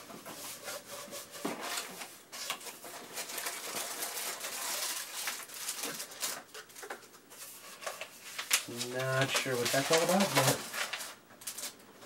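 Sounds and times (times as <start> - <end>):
paper and cardboard rustling: 0.0 - 11.8.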